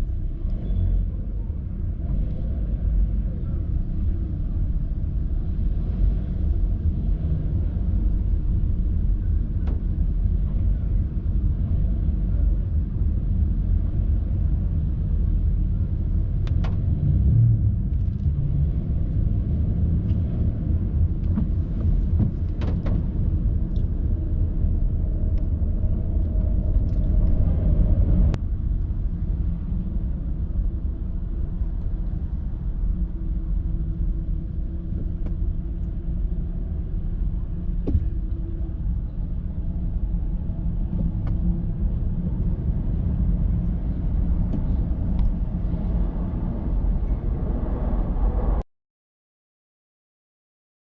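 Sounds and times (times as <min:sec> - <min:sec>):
low vehicle rumble: 0:00.0 - 0:48.7.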